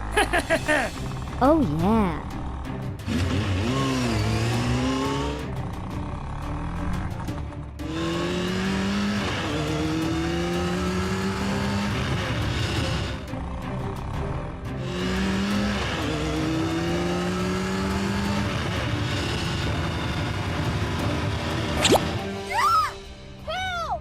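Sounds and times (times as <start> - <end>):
car engine revving: 2.2 - 21.8.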